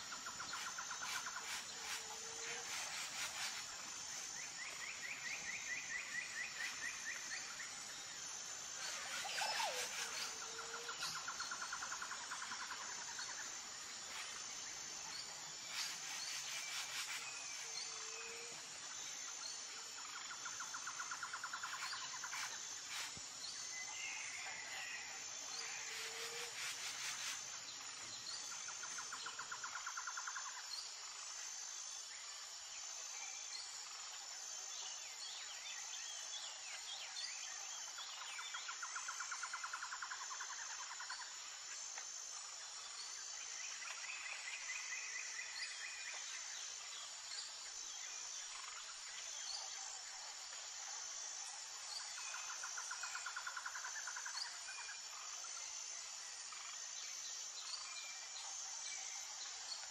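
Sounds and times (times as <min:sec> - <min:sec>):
high insect chirping: 0:00.0 - 0:32.9, 0:35.6 - 0:59.9.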